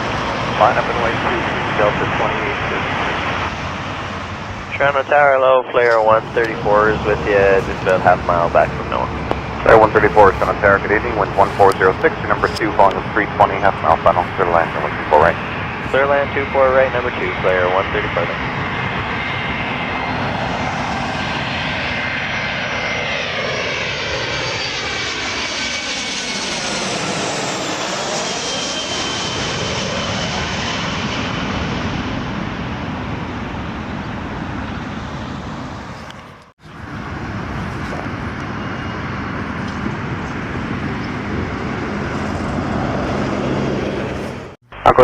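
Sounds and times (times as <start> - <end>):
jet airliner passing overhead: 0.0 - 45.0.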